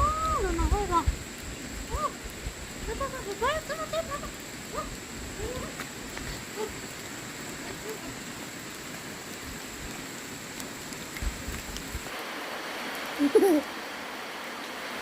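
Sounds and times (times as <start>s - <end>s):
water hissing: 0.0s - 15.0s.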